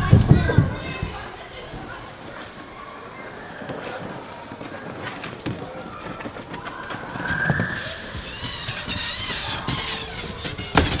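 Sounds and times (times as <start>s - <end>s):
children's voices echoing: 0.0s - 10.9s.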